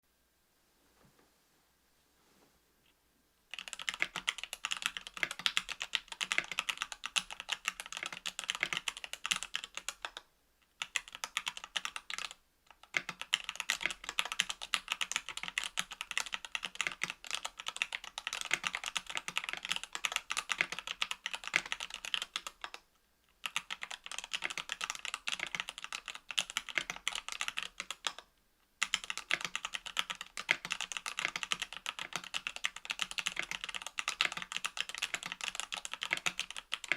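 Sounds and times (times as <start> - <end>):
fast typing on mechanical keyboard: 3.5 - 10.2, 10.8 - 22.8, 23.4 - 36.9.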